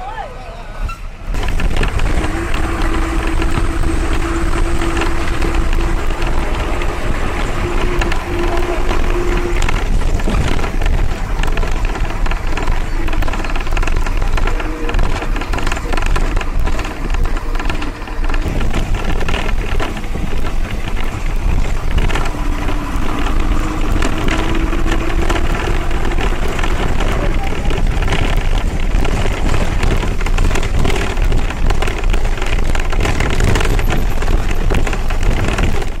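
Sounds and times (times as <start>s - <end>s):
vehicle rumble and road noise: 0.0s - 36.0s.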